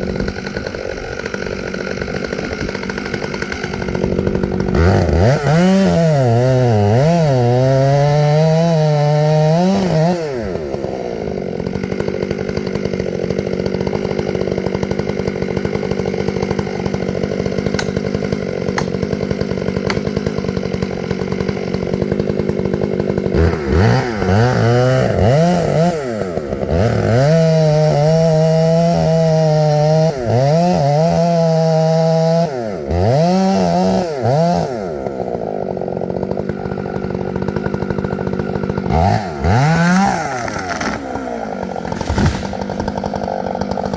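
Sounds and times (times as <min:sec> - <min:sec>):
chainsaw cutting wood: 0:00.0 - 0:43.9
chainsaw idling: 0:00.0 - 0:43.9.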